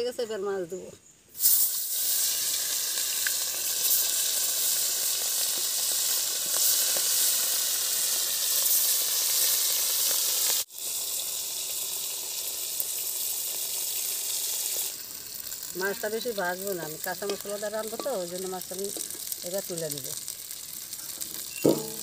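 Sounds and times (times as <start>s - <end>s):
fish sizzling in oil: 1.3s - 22.0s.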